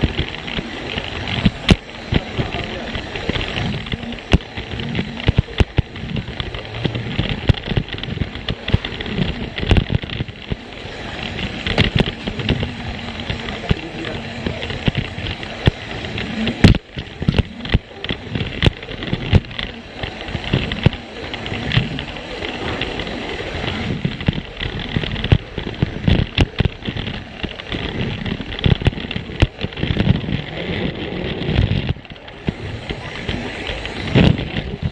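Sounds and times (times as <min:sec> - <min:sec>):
toy train motor whir: 0:00.0 - 0:34.9
wheels clacking over track joints: 0:00.0 - 0:34.9.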